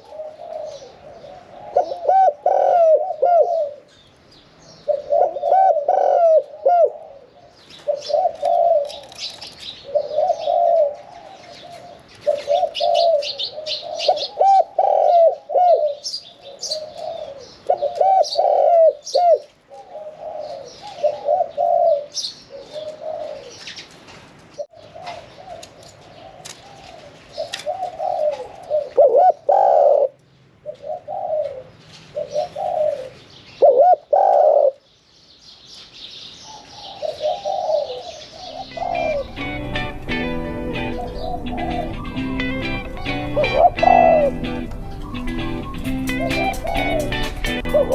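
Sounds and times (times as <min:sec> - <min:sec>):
dove cooing: 0:00.0 - 0:04.0, 0:04.8 - 0:23.7, 0:24.6 - 0:34.8, 0:36.5 - 0:47.9
small birds chirping: 0:00.0 - 0:47.9.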